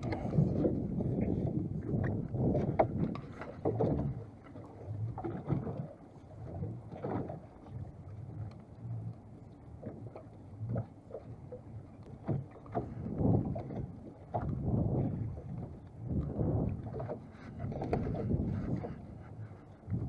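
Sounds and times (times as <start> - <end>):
water lapping against boat hull: 0.0 - 20.0.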